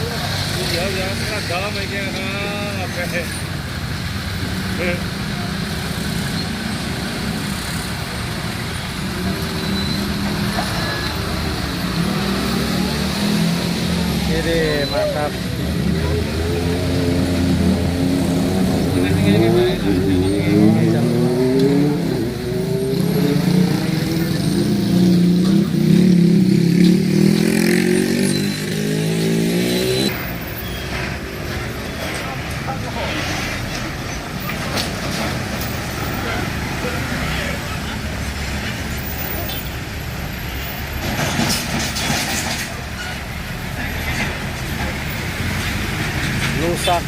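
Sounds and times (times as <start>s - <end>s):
heavy vehicle engines droning: 0.0s - 47.0s.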